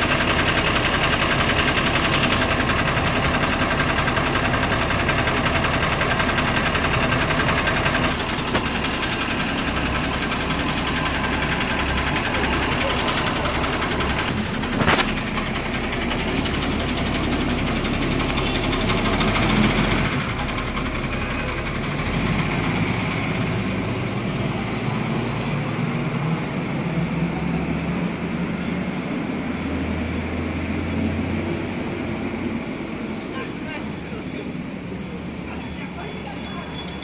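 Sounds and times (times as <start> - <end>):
diesel bus engine: 0.0 - 37.0
street traffic: 0.0 - 37.0.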